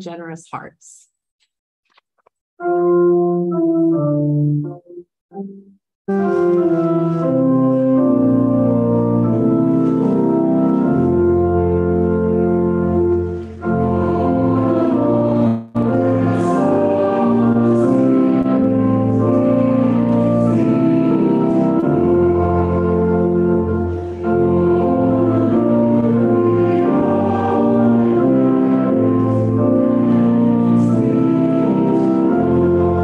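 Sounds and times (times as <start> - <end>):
church organ sustained chords: 6.1 - 33.0.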